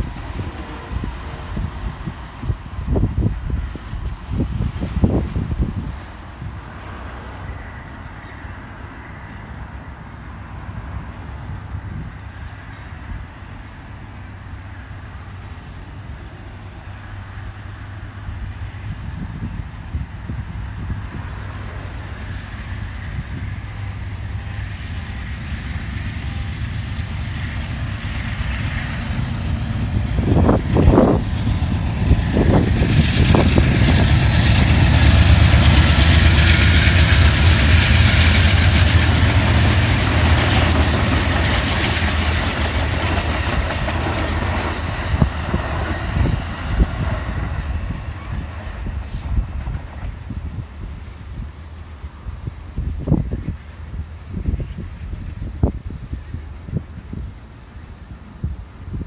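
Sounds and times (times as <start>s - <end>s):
diesel engine rumble: 0.0s - 59.0s
train wheels on rails: 0.0s - 59.0s.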